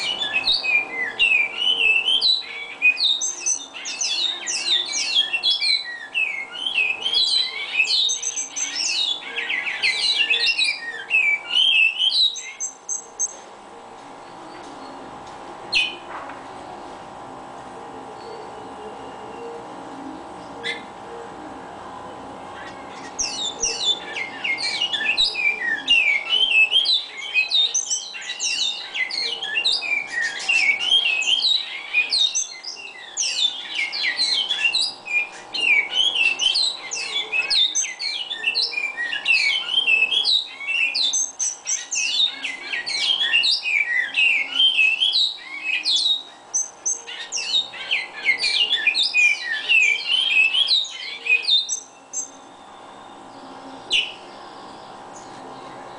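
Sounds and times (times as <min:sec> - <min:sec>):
finch singing whistled notes: 0:00.0 - 0:13.5, 0:15.7 - 0:16.1, 0:20.4 - 0:21.3, 0:22.1 - 0:55.9
faint steady hum: 0:00.0 - 0:55.9.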